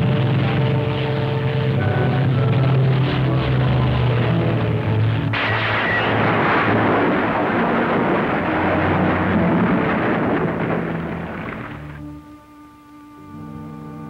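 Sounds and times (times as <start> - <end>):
aircraft landing roar with spray: 0.0 - 12.2.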